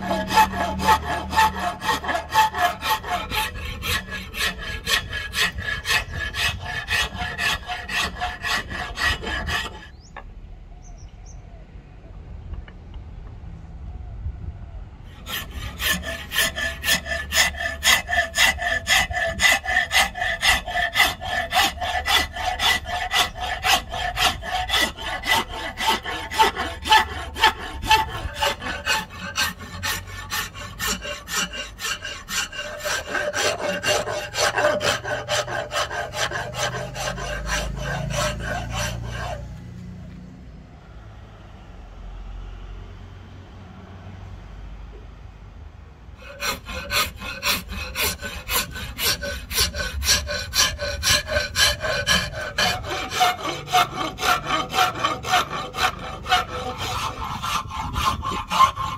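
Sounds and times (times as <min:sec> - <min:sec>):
wood rasp filing: 0:00.0 - 0:10.0, 0:15.1 - 0:39.6, 0:46.2 - 0:58.9.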